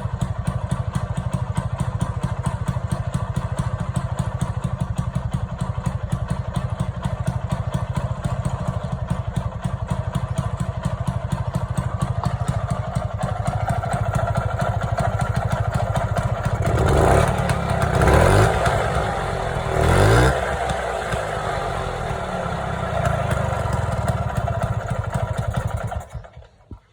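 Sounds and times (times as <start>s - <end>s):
scooter engine idling and revving: 0.0s - 26.9s.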